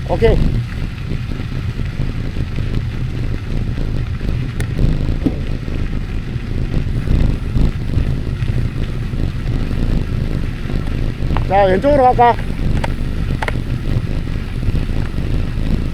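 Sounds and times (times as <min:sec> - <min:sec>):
wheels rolling: 0:00.0 - 0:15.9
wind buffeting microphone: 0:00.0 - 0:15.9.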